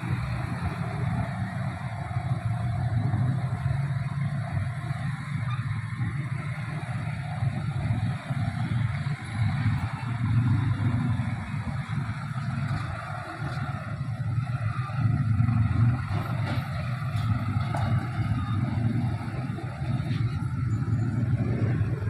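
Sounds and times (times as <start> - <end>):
train passing: 0.0 - 5.3, 6.1 - 22.0.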